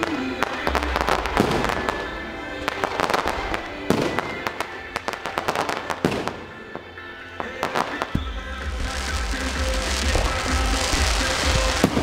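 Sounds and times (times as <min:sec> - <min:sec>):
fireworks bangs and crackles: 0:00.0 - 0:12.0
music: 0:00.0 - 0:12.0.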